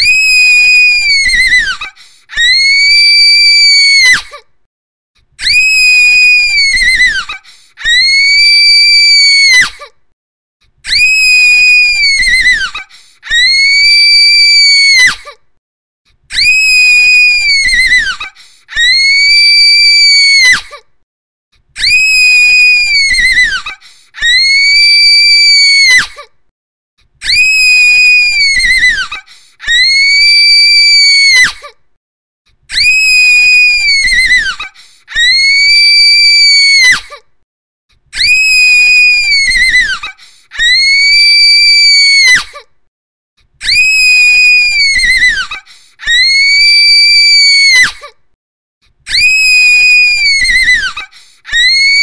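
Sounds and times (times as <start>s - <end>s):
girl screaming shrilly: 0.0s - 4.4s, 5.4s - 9.9s, 10.8s - 15.4s, 16.3s - 20.8s, 21.8s - 26.3s, 27.2s - 31.8s, 32.7s - 37.2s, 38.1s - 42.7s, 43.6s - 48.2s, 49.1s - 52.0s.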